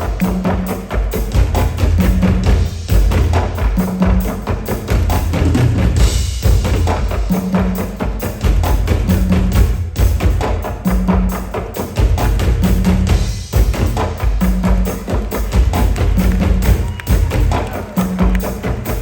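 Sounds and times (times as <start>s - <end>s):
drums beating: 0.0s - 19.0s
wood block percussion: 0.0s - 19.0s.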